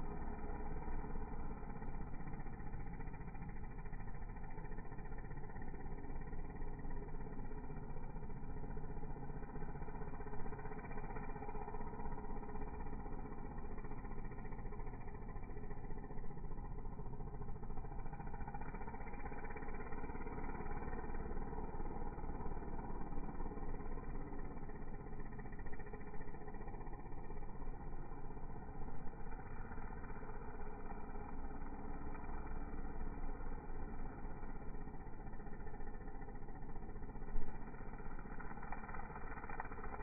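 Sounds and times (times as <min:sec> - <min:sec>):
string trimmer cutting grass: 0:00.0 - 0:40.0.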